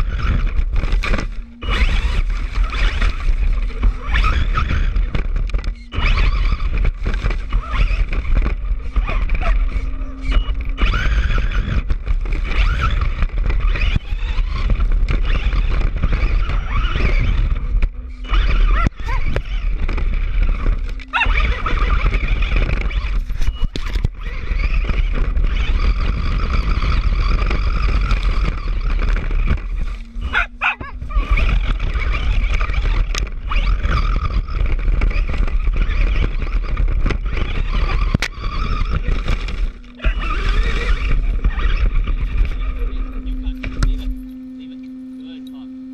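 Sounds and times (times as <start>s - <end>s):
rc car motor whine: 0.0s - 45.9s
tyres rumbling on rough ground: 0.0s - 45.9s.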